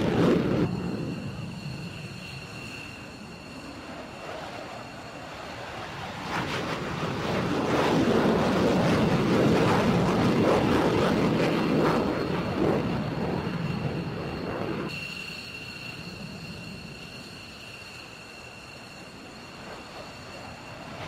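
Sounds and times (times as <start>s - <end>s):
jet engine high whine: 0.0s - 21.0s
jet engines roaring on takeoff: 0.0s - 21.0s.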